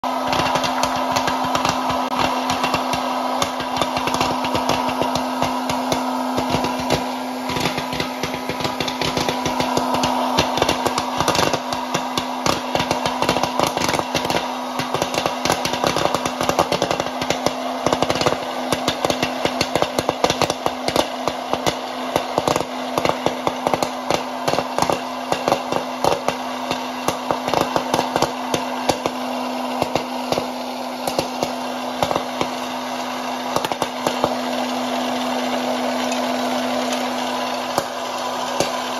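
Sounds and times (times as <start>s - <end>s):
popcorn kernels popping: 0.0s - 38.9s
popcorn maker fan humming: 0.0s - 38.9s.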